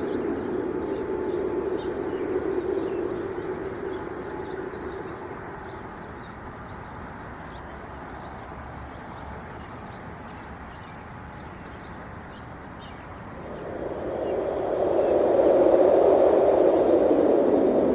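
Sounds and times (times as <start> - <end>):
small bird chirping: 0.0 - 15.2
wind blowing: 0.0 - 17.9.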